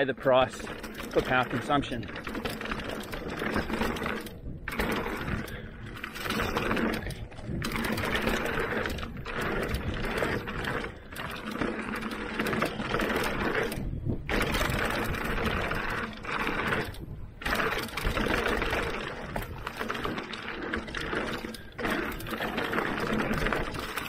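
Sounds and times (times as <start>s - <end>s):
electric bike motor whirring: 0.0s - 24.0s
tyres rolling over dirt: 0.0s - 24.0s.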